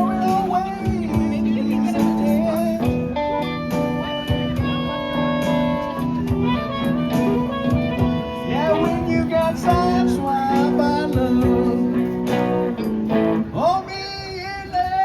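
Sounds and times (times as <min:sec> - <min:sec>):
live band playing instrumental: 0:00.0 - 0:13.6
guitar: 0:00.0 - 0:15.0.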